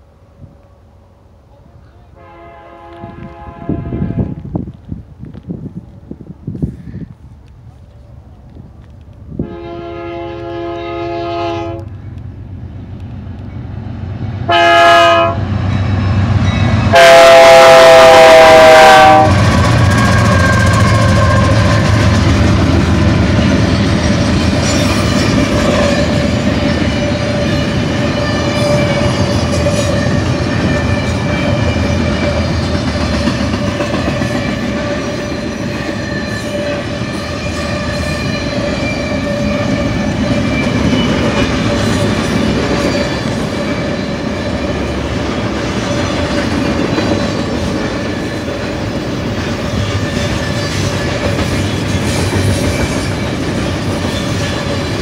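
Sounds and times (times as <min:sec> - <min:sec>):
diesel locomotives rumbling: 0:00.0 - 0:55.0
train wheels on rails: 0:00.0 - 0:55.0.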